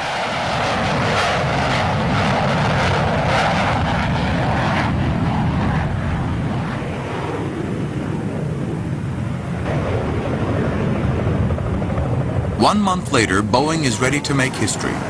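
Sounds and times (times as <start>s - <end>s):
jet engine rushing: 0.0s - 15.0s.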